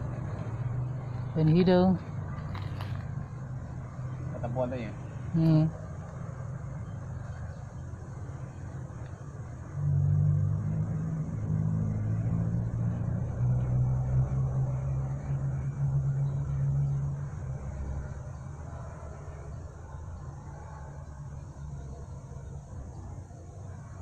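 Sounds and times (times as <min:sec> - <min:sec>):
passing vehicle engine hum: 0:00.0 - 0:24.0.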